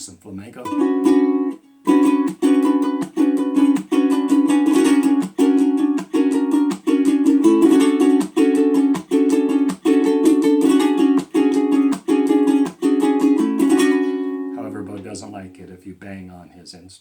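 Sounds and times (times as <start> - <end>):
ukulele strummed rhythmically: 0.6 - 15.6.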